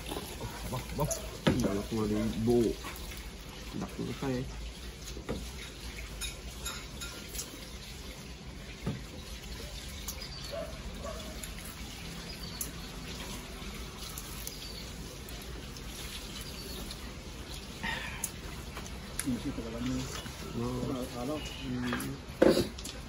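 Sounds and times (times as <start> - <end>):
liquid pouring and dripping: 0.0 - 23.0.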